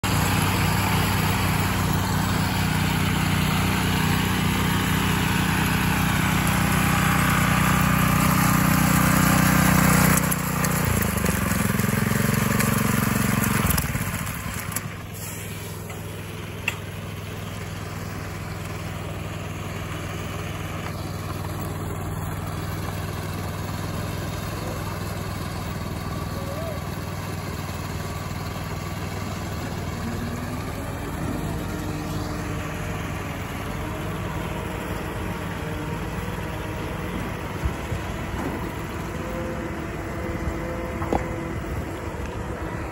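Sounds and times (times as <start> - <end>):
power trowel engines running: 0.0 - 42.9.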